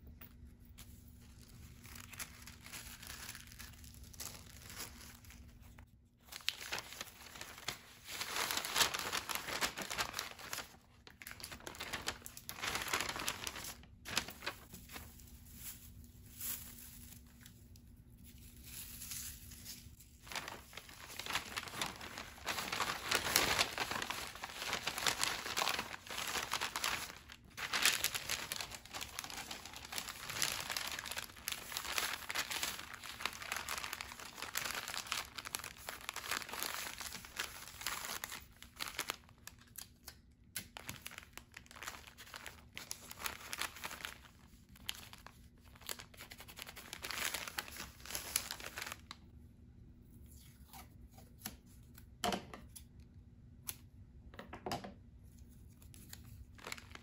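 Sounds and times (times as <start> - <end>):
paper bag crinkling: 1.2 - 17.5, 18.3 - 39.7, 40.8 - 49.2, 56.4 - 57.0.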